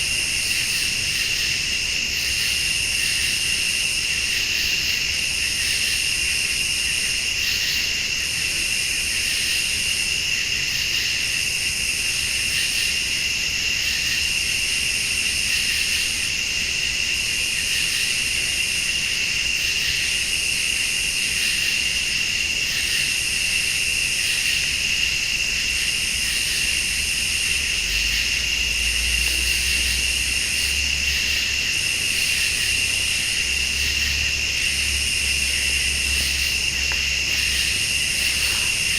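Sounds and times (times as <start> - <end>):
crickets trilling: 0.0 - 38.9
high insect buzz: 0.0 - 38.9.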